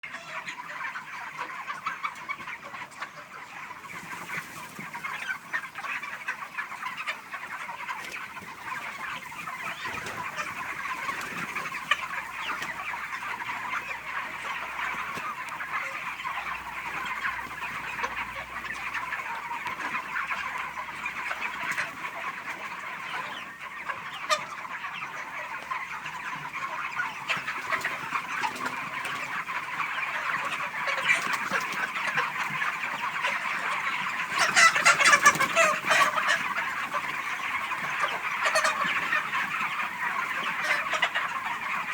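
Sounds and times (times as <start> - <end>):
chickens clucking and peeping: 0.0 - 41.9.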